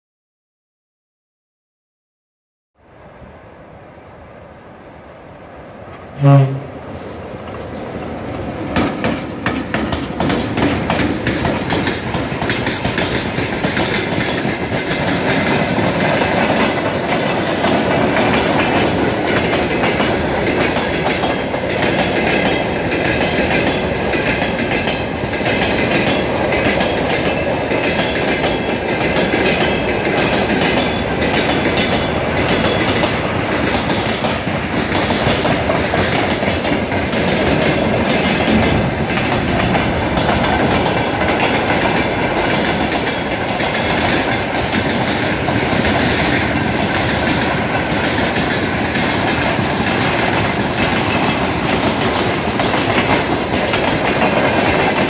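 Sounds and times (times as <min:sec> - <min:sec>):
train wheels rumbling on rail: 0:05.4 - 0:55.0
clickety-clack over rail joints: 0:07.0 - 0:55.0.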